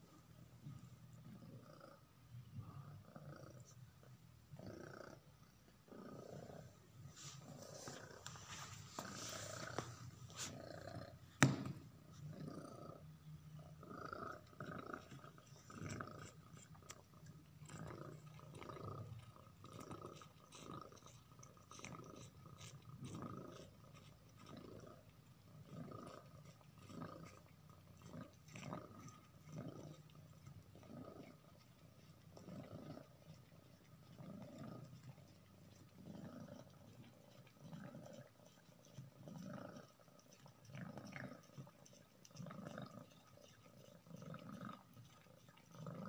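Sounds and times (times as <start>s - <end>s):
cat purring: 1.2s - 3.8s, 4.6s - 11.3s, 12.0s - 46.0s
cat chewing and licking: 5.7s - 12.8s, 13.4s - 46.0s.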